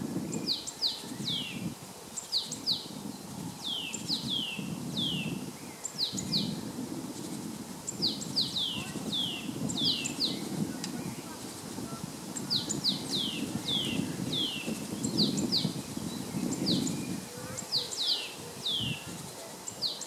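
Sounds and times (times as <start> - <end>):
great tit singing: 0.3 - 6.6, 7.9 - 20.0.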